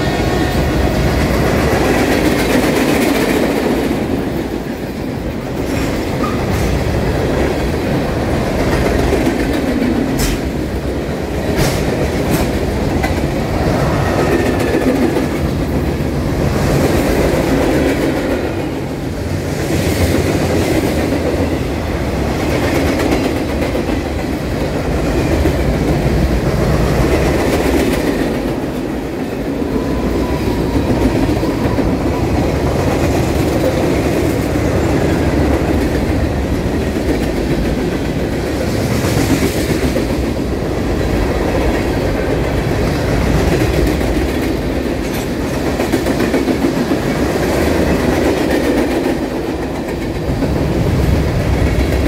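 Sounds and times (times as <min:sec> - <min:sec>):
freight train wheels clattering: 0:00.0 - 0:52.0.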